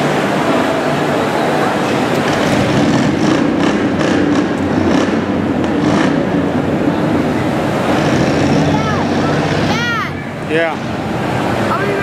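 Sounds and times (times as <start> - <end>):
car engines rumbling: 0.0 - 12.0.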